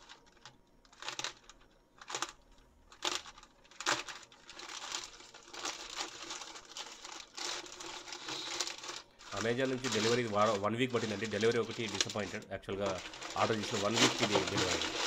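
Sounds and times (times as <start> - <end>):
plastic mailer bag crinkling: 0.0 - 15.0.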